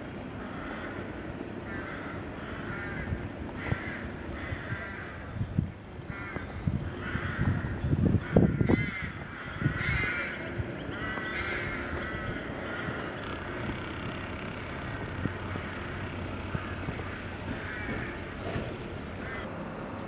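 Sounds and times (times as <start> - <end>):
bird cawing: 0.4 - 5.3, 6.0 - 13.7, 14.7 - 18.5, 19.1 - 19.5.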